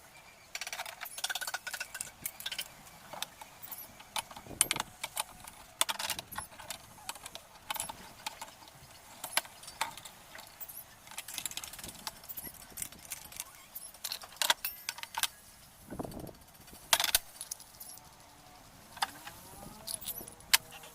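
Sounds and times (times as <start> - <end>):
small metal parts clinking: 0.5 - 18.3, 18.9 - 20.9.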